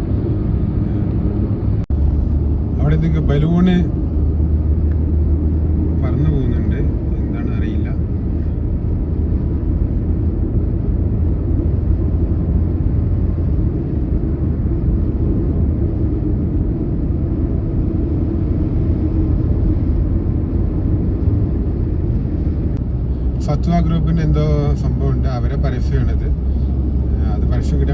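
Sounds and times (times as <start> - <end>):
car engine and tyre rumble: 0.0 - 27.9.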